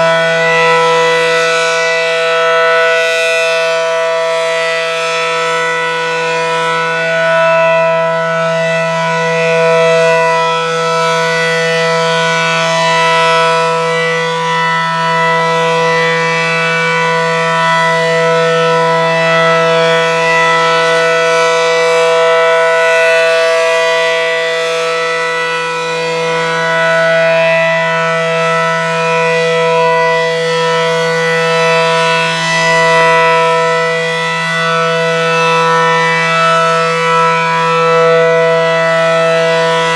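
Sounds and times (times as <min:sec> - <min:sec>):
low-tone rotating warning siren: 0:00.0 - 0:39.9.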